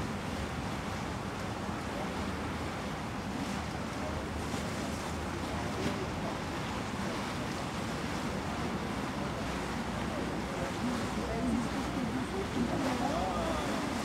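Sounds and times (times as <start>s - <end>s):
sea water sloshing around boat: 0.0s - 14.0s.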